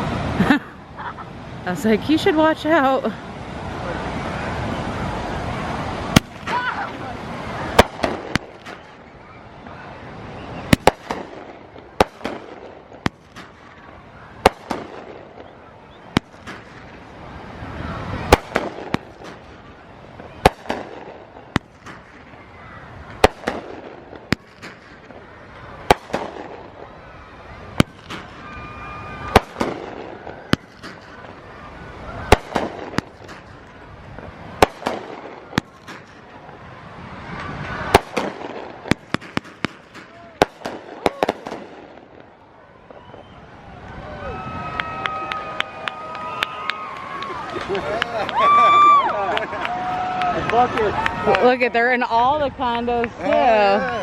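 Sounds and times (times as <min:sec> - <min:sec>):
fireworks bangs: 0:00.0 - 0:54.0
fireworks crackling hiss: 0:00.0 - 0:54.0.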